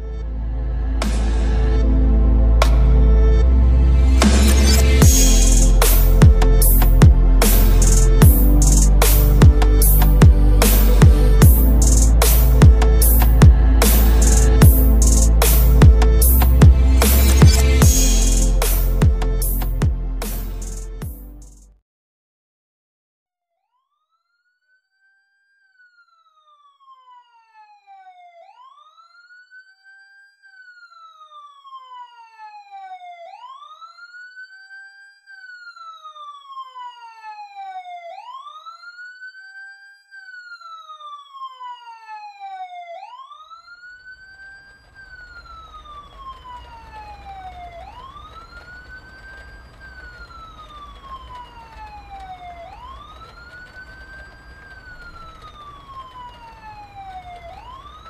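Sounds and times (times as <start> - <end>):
emergency siren wailing: 0.0 - 21.7, 24.0 - 58.0.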